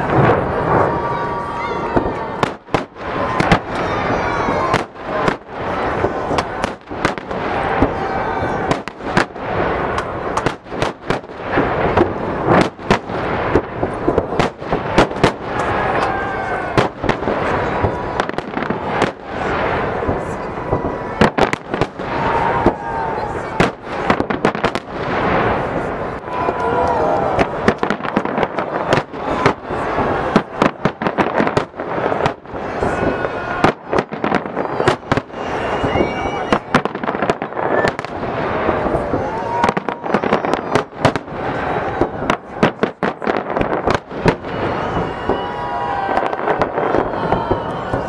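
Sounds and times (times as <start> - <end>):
fireworks bursting with sharp bangs: 0.0 - 48.0.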